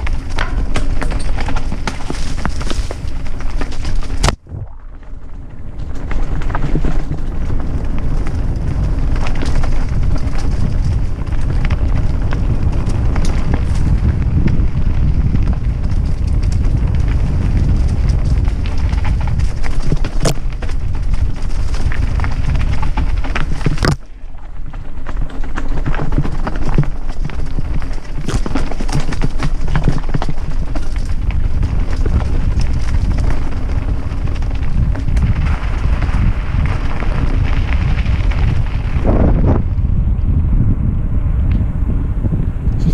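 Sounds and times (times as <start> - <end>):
bike rattling on rough trail: 0.0 - 42.9
wind buffeting microphone: 0.0 - 42.9.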